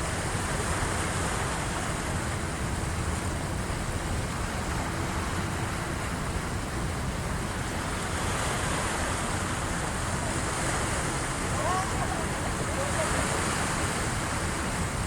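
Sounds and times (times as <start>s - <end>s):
waves washing in: 0.0s - 15.0s.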